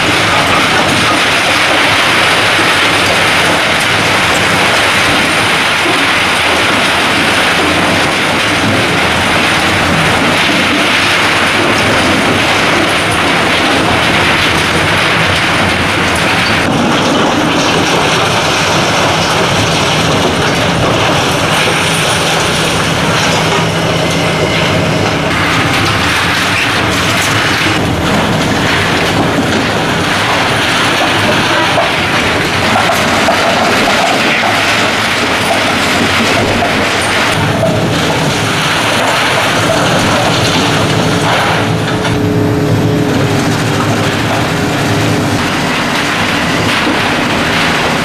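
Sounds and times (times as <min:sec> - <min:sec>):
steady high whine: 0:00.0 - 0:33.1, 0:36.5 - 0:48.0
concrete crushing and rubble clatter: 0:00.0 - 0:48.0
excavator engine and hydraulics: 0:00.0 - 0:48.0.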